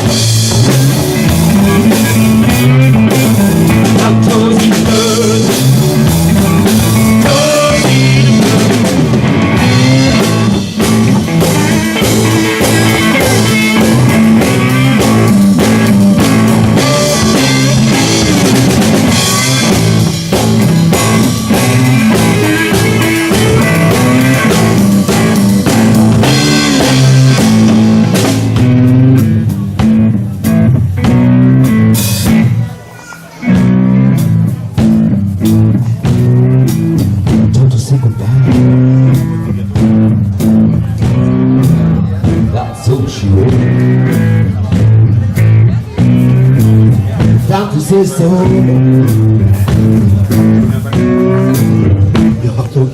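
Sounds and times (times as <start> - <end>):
blues-rock band playing: 0.0 - 52.9.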